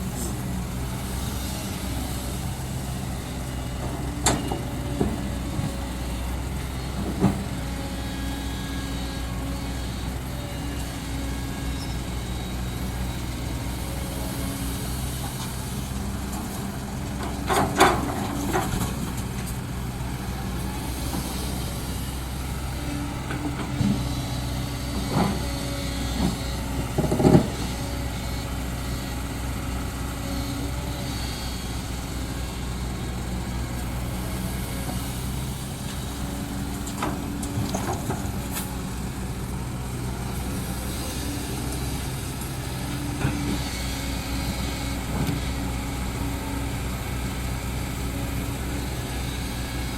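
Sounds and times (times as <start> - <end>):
diesel earthmoving engine running: 0.0 - 49.9.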